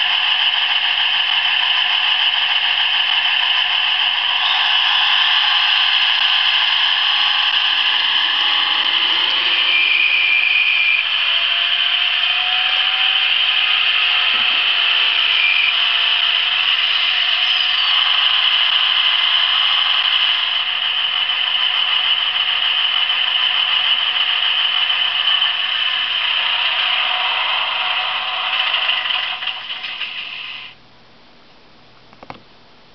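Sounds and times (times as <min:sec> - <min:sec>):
diesel engine sound through small speaker: 0:00.0 - 0:30.8.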